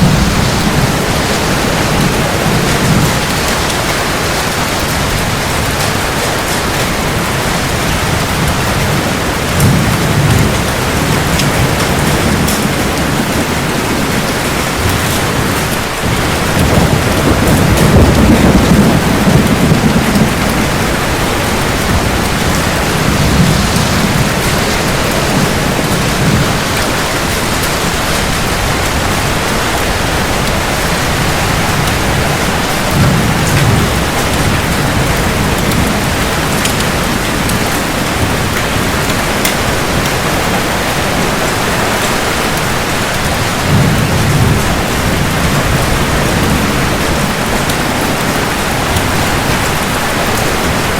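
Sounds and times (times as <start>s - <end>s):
heavy rain falling: 0.0s - 50.9s
thunder rumbling: 0.0s - 50.9s.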